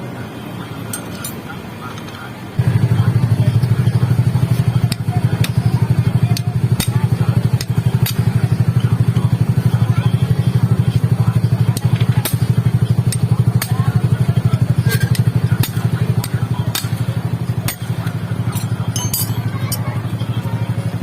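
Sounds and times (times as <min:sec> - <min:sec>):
motorcycle engine idling: 0:02.6 - 0:21.0.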